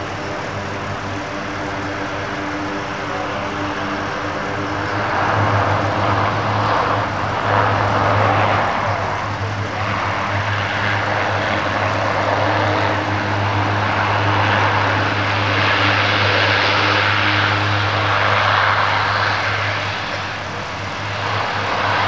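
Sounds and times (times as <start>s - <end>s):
propeller aircraft taxiing: 0.0s - 22.0s.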